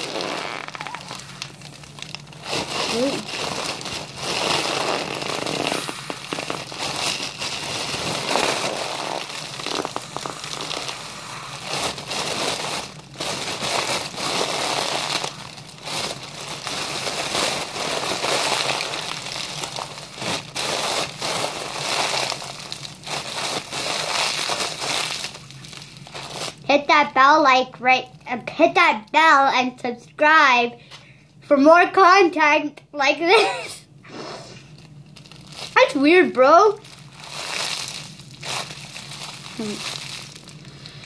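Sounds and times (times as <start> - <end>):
foil balloon crinkling: 0.0 - 26.9, 34.6 - 41.0.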